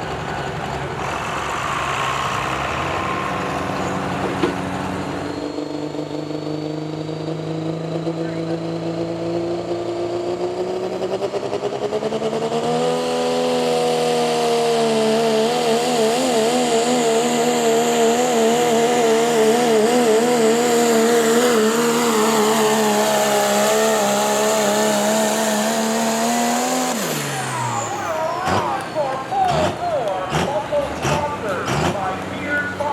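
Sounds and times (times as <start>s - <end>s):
vehicle engine at high revs: 0.0s - 32.9s.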